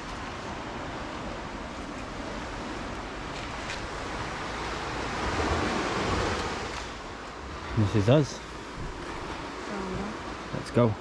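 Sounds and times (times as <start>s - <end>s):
waves breaking on beach: 0.0s - 11.0s
wind buffeting microphone: 0.0s - 11.0s.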